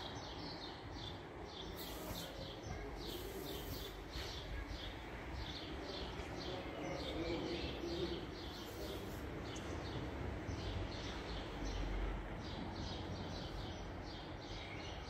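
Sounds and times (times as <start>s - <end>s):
low rumble of street noise: 0.0s - 15.0s.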